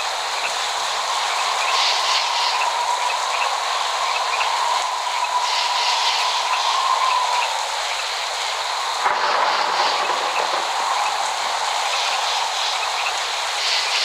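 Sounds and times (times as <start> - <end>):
light drips and ticks: 0.0 - 14.0
steady rain hiss: 0.0 - 14.0.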